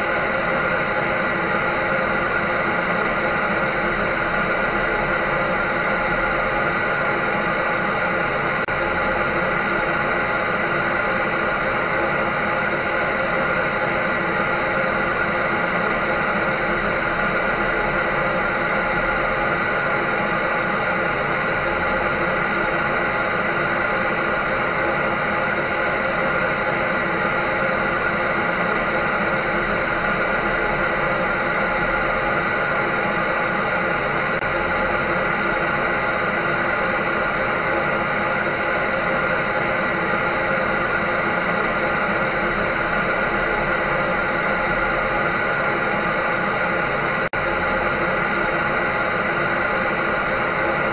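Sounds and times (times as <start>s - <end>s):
clothes dryer running: 0.0s - 50.9s.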